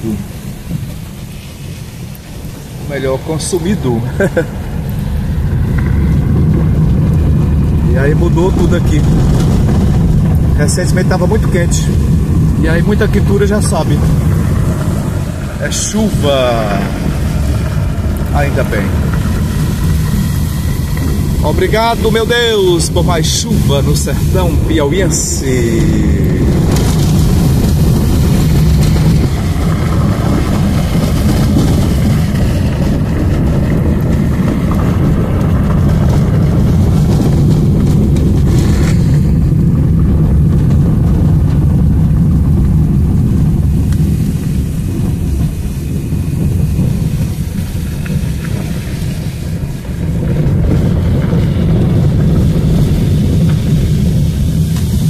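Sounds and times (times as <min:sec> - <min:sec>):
car engine and tyres rumbling: 0:00.0 - 0:55.0
rain and spray hissing on car: 0:00.0 - 0:55.0.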